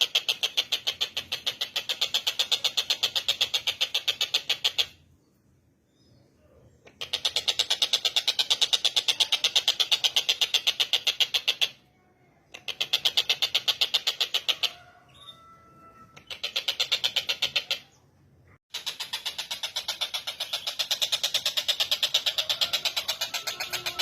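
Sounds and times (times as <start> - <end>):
bird calling harsh repeated notes: 0.0 - 5.1, 6.8 - 11.9, 12.5 - 18.1, 18.7 - 24.0.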